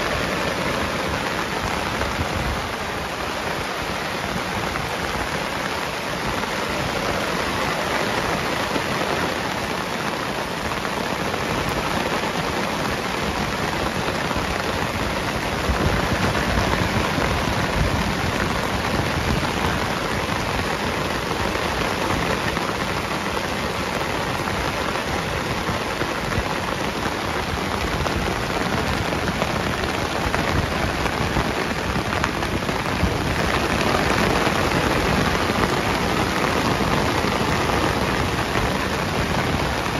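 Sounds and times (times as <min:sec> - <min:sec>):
heavy rain on grass and foliage: 0:00.0 - 0:39.9.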